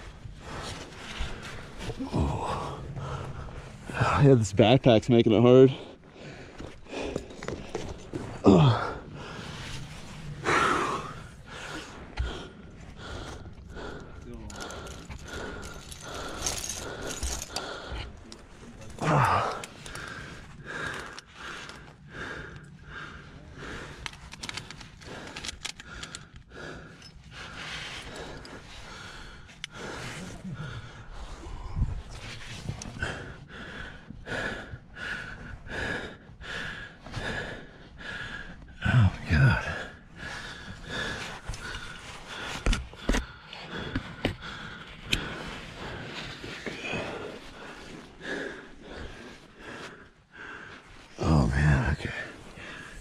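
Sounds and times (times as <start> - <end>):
person breathing hard: 0.0 - 4.2, 5.7 - 53.0.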